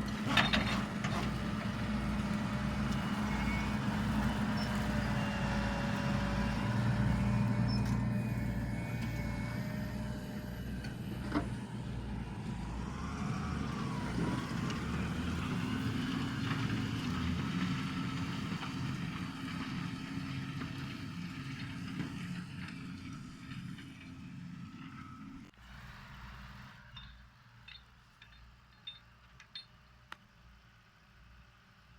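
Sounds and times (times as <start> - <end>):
tractor engine running under load: 0.0 - 30.2.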